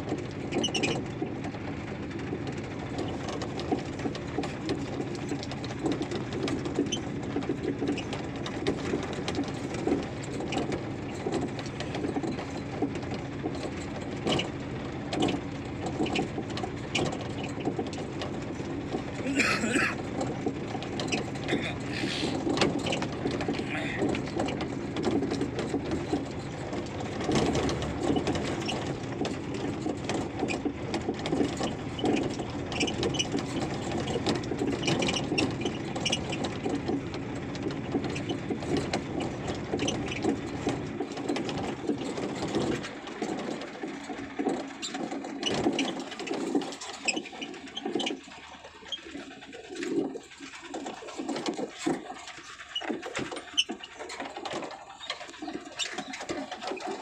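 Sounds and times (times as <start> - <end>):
truck engine rumble: 0.0 - 57.0
busy rattling: 2.4 - 57.0.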